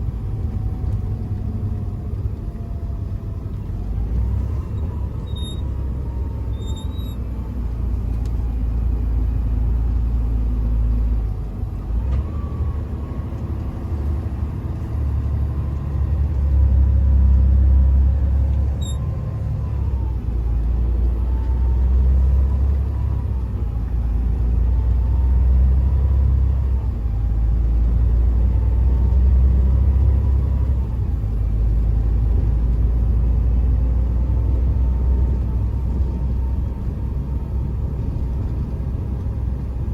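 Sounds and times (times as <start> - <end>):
heavy truck engine rumble: 0.0 - 39.9.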